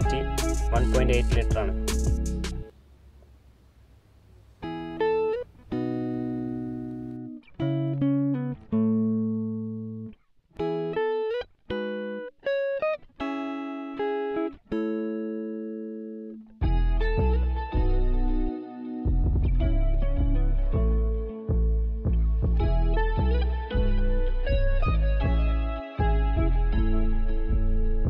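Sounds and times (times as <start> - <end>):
plucked guitar notes: 0.0 - 2.7, 4.6 - 28.0.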